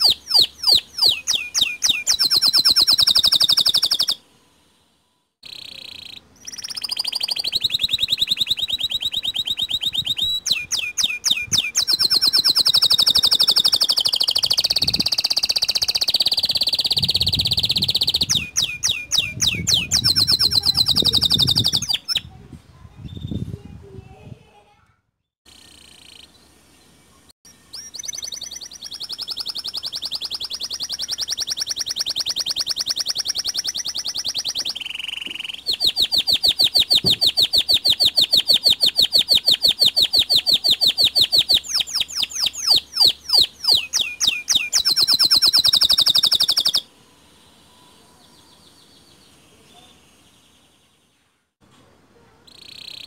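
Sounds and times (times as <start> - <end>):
canary singing trills: 0.0 - 4.2, 5.4 - 22.4, 25.5 - 51.0, 52.5 - 53.0.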